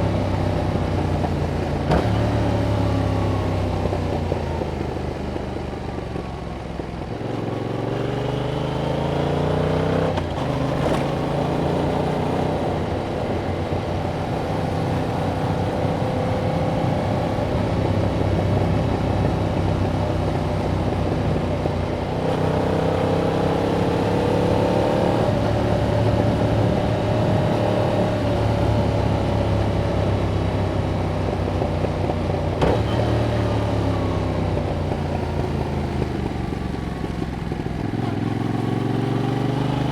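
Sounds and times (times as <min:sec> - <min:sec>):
motorcycle engine revving: 0:00.0 - 0:05.2, 0:07.2 - 0:39.9.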